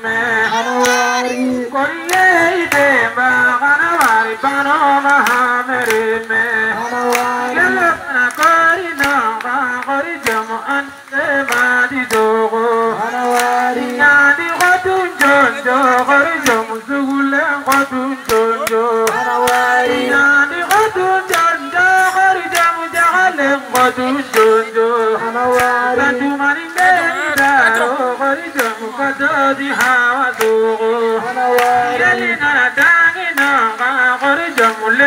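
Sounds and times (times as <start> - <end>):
man singing into a microphone: 0.0 - 35.0.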